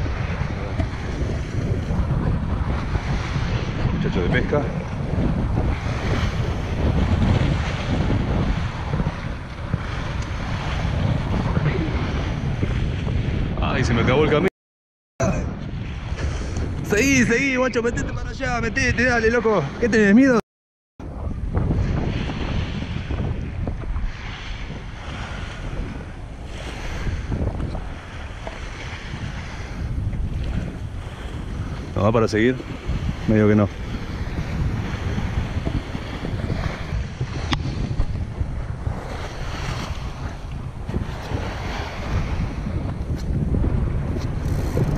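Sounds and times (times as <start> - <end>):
small waves washing ashore: 0.0 - 14.4, 21.1 - 44.9
wind buffeting microphone: 0.0 - 14.5, 15.2 - 20.4, 21.0 - 44.9.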